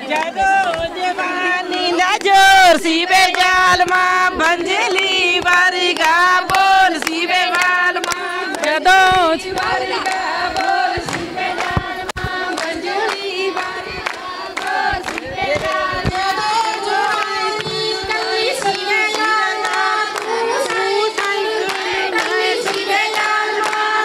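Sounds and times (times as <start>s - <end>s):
women singing together: 0.0s - 24.0s
hand claps: 2.0s - 24.0s.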